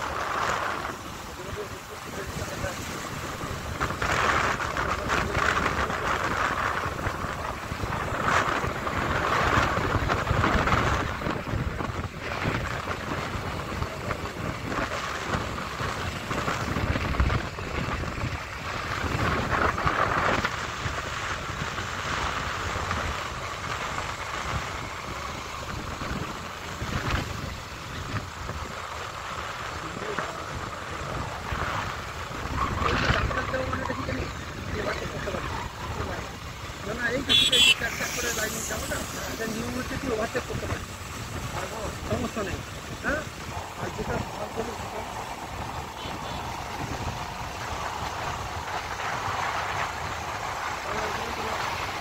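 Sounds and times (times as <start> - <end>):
road noise: 0.0 - 52.0
wind buffeting microphone: 0.0 - 52.0.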